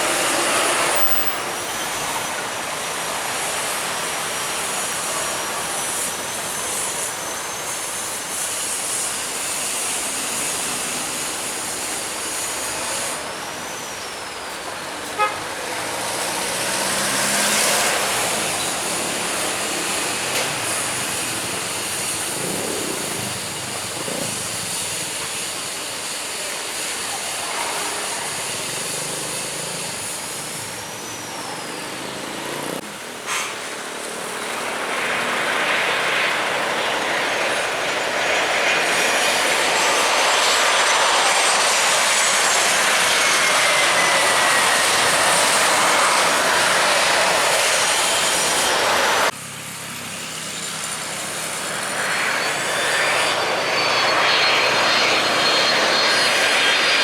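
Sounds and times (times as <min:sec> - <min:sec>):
jet engines passing: 0:00.0 - 0:57.0.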